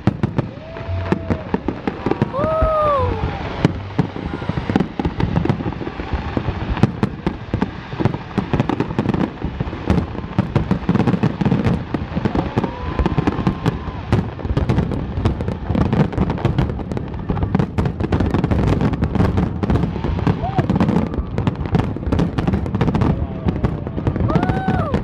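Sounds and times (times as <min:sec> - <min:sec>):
fireworks bursts and crackling: 0:00.0 - 0:25.0.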